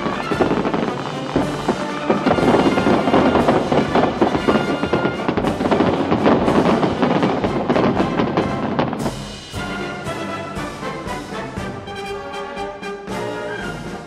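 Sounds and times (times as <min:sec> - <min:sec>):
fireworks bursting and crackling: 0:00.0 - 0:12.0
music playing: 0:00.0 - 0:14.0.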